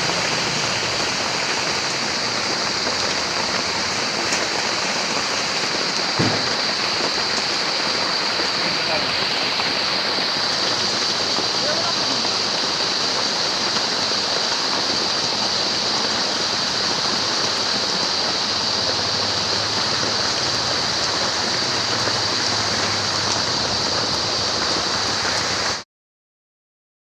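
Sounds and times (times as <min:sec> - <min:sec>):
heavy rain falling: 0:00.0 - 0:25.8.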